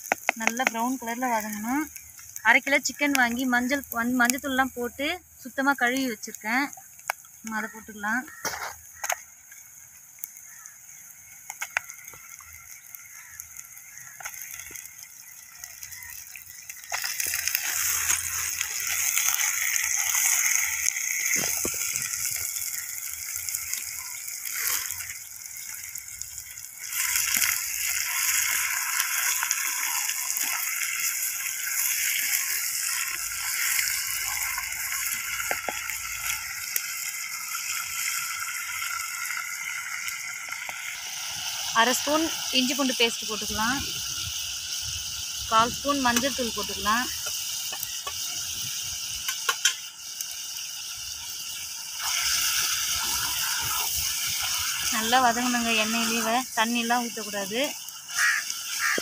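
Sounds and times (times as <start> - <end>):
chicken sizzling in hot oil: 0.0 - 59.0
oil pops and crackles: 0.0 - 59.0.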